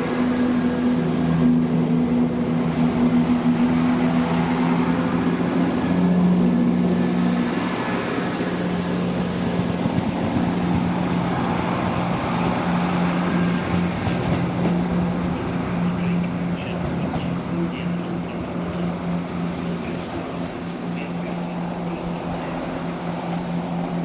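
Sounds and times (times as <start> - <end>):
diesel train engine drone: 0.0 - 24.0.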